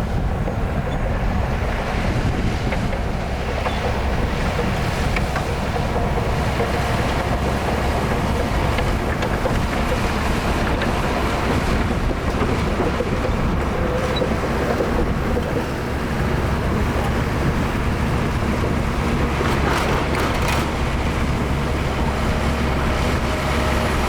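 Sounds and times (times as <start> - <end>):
diesel machinery engine rumble: 0.0 - 24.0.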